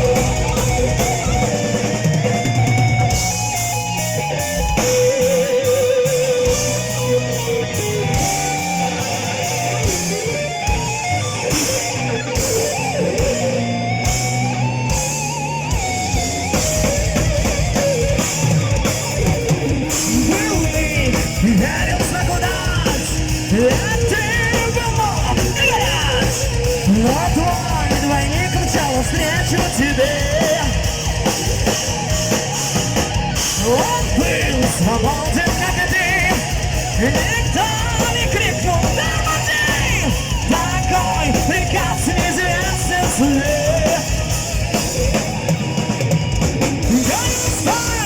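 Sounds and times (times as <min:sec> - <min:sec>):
bass guitar: 0:00.0 - 0:48.0
drums: 0:00.0 - 0:48.0
electric guitar lead: 0:00.0 - 0:48.0.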